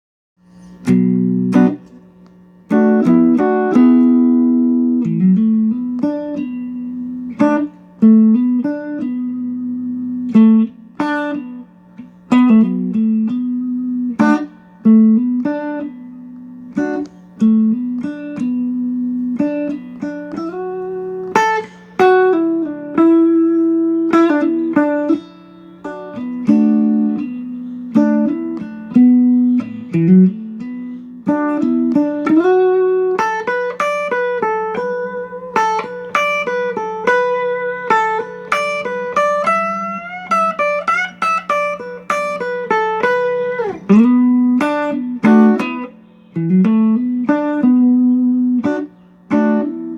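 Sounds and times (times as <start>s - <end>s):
electric guitar melody: 0.5s - 49.9s.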